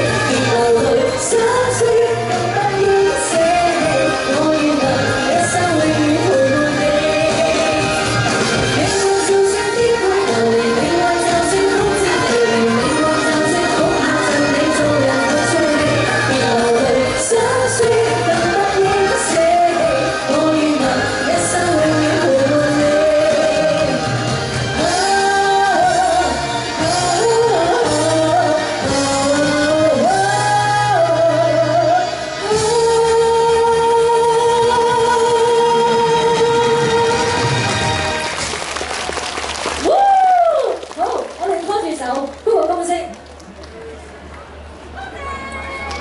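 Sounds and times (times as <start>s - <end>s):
woman singing into microphone: 0.0s - 37.8s
backing track music: 0.0s - 40.5s.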